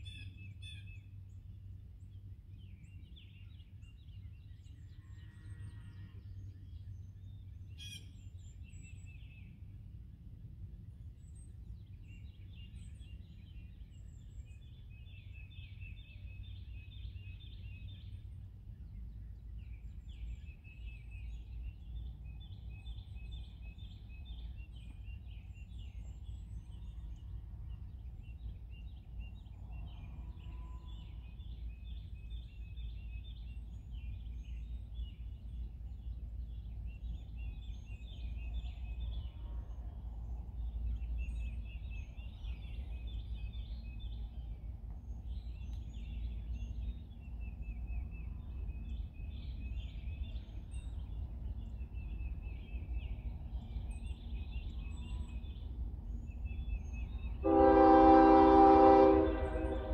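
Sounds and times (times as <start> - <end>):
low steady rumble: 0.0 - 59.9.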